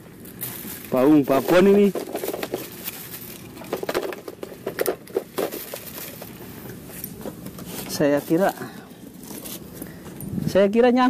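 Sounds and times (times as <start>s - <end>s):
plastic bags crinkling: 0.0s - 9.9s.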